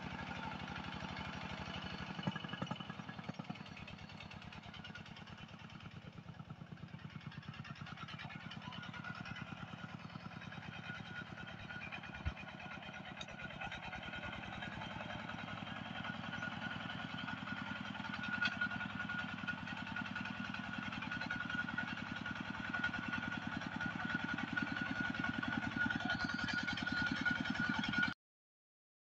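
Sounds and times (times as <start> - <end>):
diesel engine chugging: 0.0 - 28.2.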